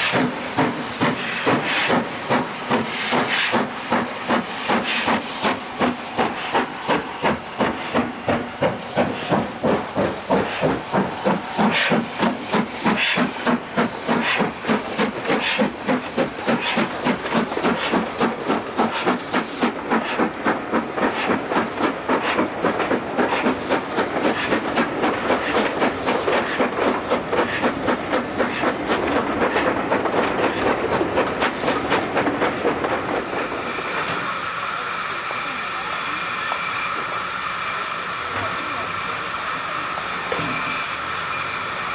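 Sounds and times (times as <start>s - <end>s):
steam hissing: 0.0s - 41.9s
steam locomotive exhaust beats: 0.0s - 41.9s.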